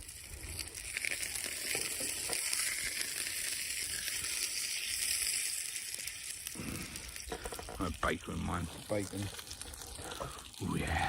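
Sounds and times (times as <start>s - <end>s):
burgers sizzling in a pan: 0.0s - 11.0s.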